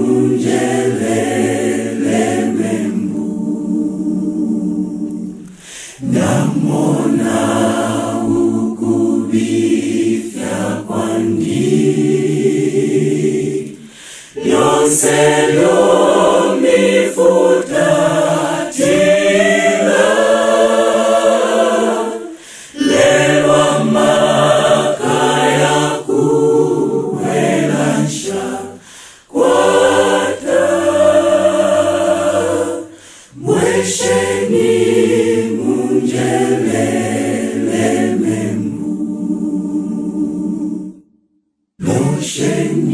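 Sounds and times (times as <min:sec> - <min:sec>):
choir singing a hymn: 0:00.0 - 0:41.1, 0:41.8 - 0:42.9.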